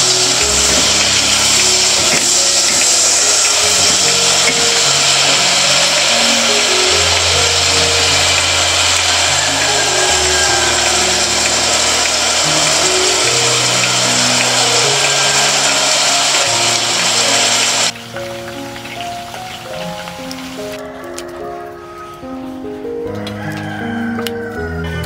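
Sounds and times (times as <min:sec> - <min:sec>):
shrimp sizzling in a pot: 0:00.0 - 0:20.9
slow low-note background music: 0:00.0 - 0:25.0.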